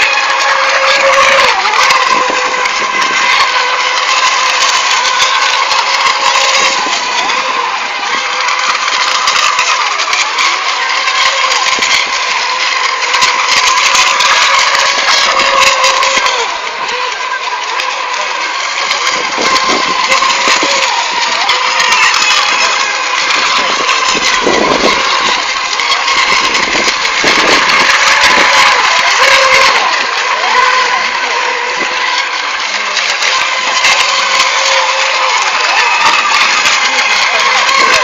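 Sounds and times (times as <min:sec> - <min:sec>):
rc boat motors whining: 0:00.0 - 0:38.0
water spray: 0:00.0 - 0:38.0.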